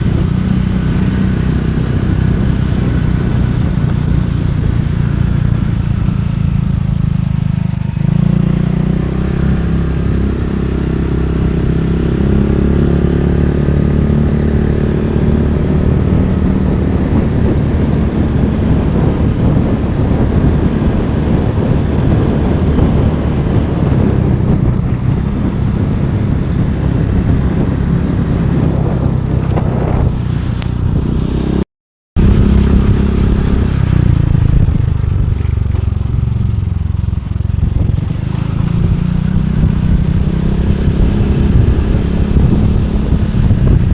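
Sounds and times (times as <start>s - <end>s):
motorcycle engine running: 0.0s - 31.6s, 32.2s - 43.9s.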